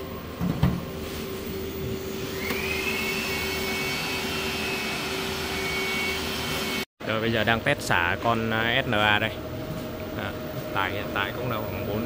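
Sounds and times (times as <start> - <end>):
cooling fans running: 0.0 - 12.0.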